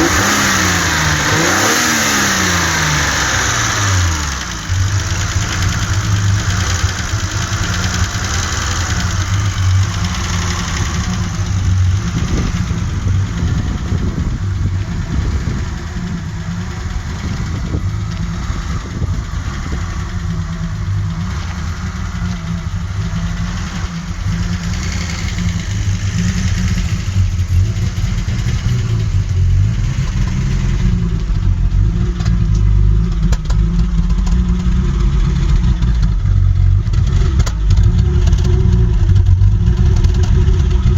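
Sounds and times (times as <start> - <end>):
misfiring car engine rumble: 0.0 - 40.9.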